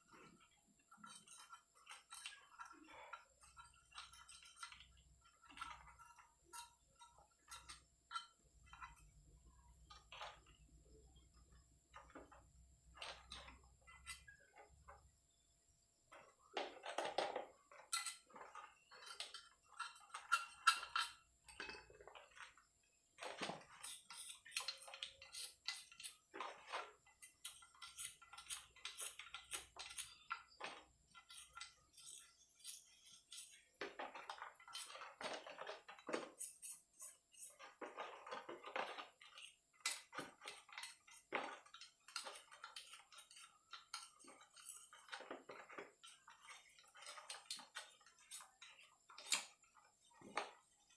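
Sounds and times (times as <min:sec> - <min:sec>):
scrubbing engine parts: 0:00.0 - 0:50.9.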